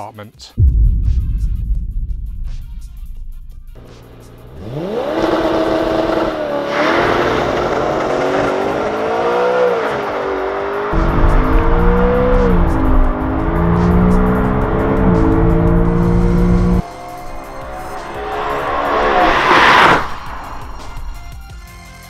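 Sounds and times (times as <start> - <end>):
car engine revving and accelerating: 3.7 - 21.5.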